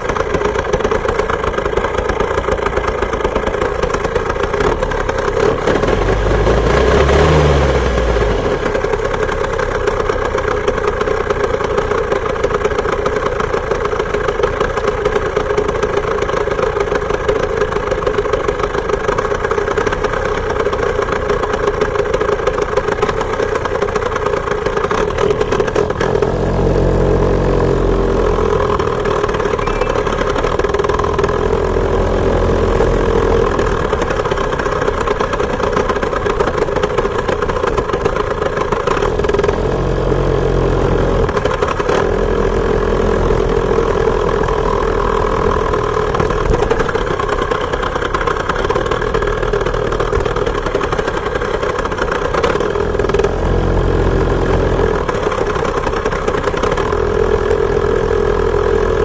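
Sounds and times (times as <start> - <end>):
two-stroke moped engine droning: 0.0 - 59.0.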